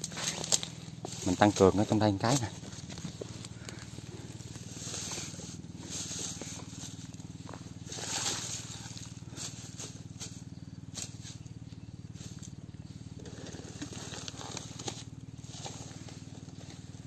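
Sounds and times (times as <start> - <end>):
dry grass and brush rustling: 0.0 - 17.0
steady low hum: 0.0 - 17.0.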